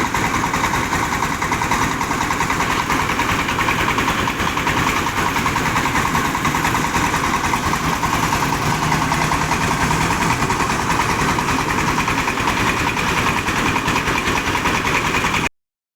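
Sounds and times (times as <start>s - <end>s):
diesel engine running steadily: 0.0s - 15.5s.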